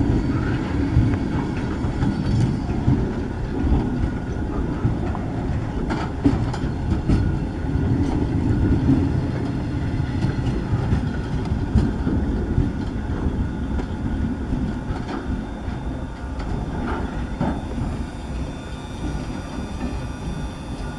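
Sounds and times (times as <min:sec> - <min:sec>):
freight train wheels clacking on rail: 0:00.0 - 0:20.9.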